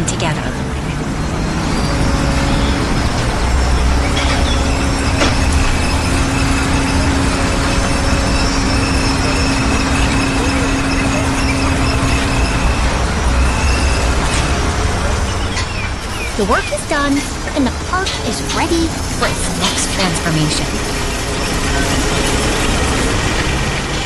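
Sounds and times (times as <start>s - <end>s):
heavy vehicle engine rumbling: 0.0s - 24.0s
steady whine: 0.0s - 24.0s.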